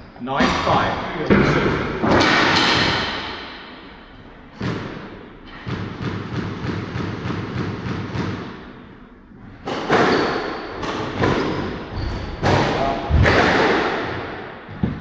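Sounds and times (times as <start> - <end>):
squash ball cracking off rackets: 1.3 - 9.0, 9.6 - 15.0.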